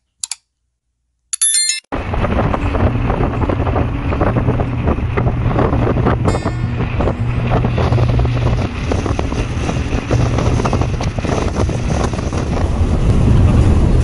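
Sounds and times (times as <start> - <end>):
engine hum and road noise: 1.9 - 14.0.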